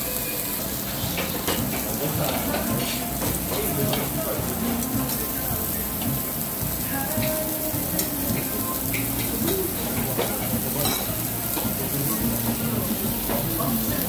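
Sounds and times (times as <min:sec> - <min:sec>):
pork sizzling on a grill: 0:00.0 - 0:14.0.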